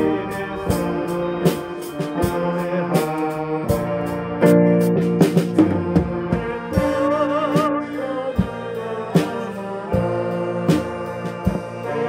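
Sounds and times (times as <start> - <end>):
lead melody with vibrato: 0.0 - 12.0
live brass band with keyboard: 0.0 - 12.0.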